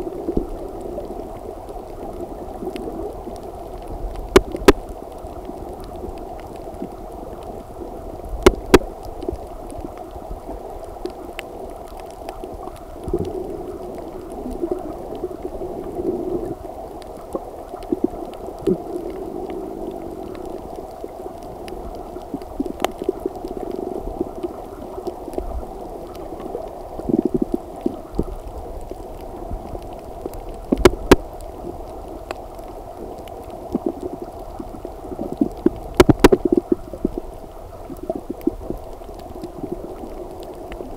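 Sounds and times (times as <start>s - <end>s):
underwater rush of water: 0.0s - 40.9s.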